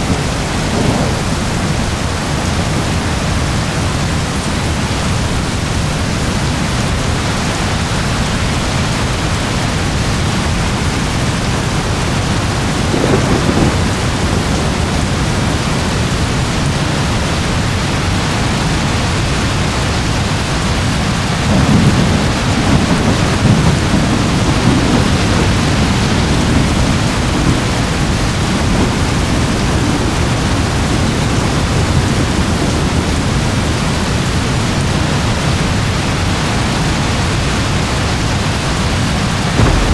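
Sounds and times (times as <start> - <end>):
steady rain falling: 0.0 - 39.9
thunder rumbling: 0.0 - 39.9.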